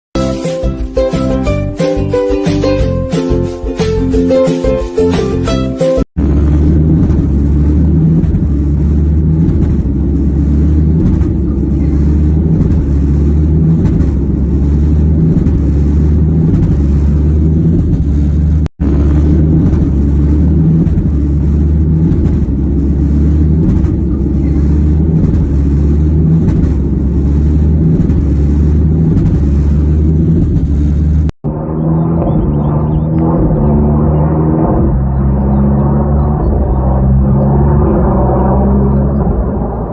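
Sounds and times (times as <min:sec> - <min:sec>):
jet engine rumbling: 0:06.2 - 0:39.9.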